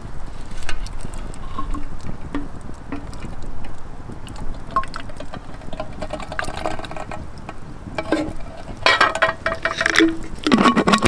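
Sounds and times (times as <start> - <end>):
liquid pouring into container: 0.0 - 11.0
small clicks and knocks: 0.4 - 11.0.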